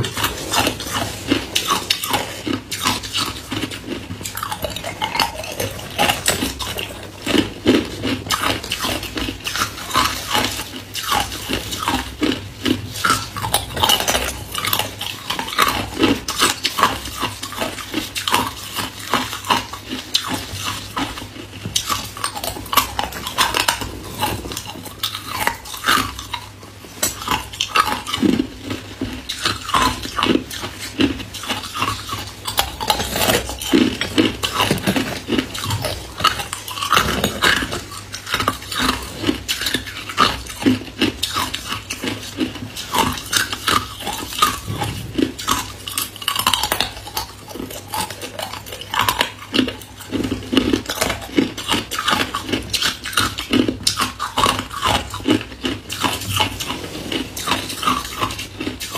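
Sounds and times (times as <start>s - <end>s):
ice cubes crunching: 0.0s - 58.9s.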